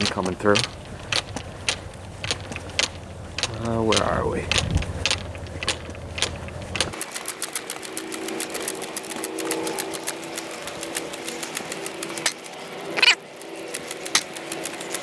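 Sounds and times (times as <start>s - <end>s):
rapid mechanical clicking: 0.0s - 15.0s.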